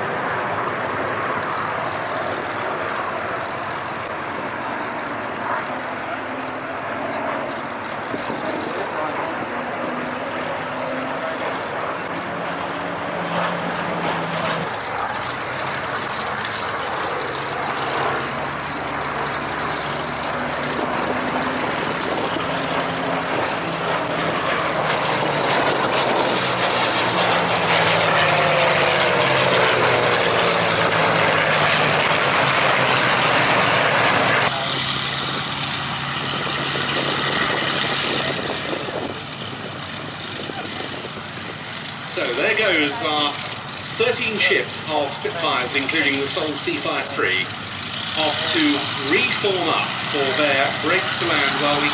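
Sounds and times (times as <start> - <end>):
propeller planes flying past: 0.0 - 51.9.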